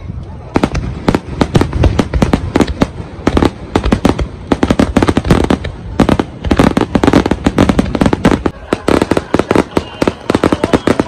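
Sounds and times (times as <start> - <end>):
firework crackle: 0.3 - 11.0.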